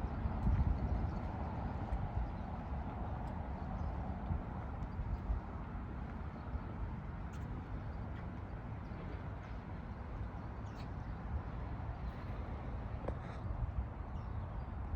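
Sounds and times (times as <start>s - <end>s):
steady low rumble: 0.0s - 14.7s.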